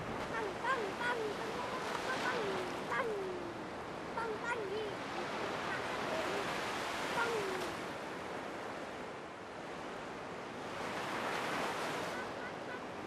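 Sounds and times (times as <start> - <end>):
sea waves washing onto sand: 0.0 - 8.9, 9.8 - 13.0.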